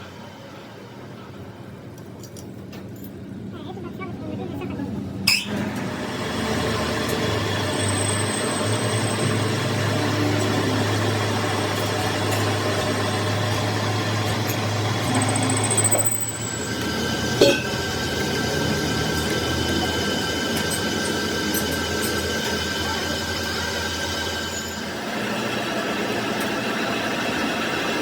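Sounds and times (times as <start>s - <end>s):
metalworking machine whine: 4.3s - 28.0s.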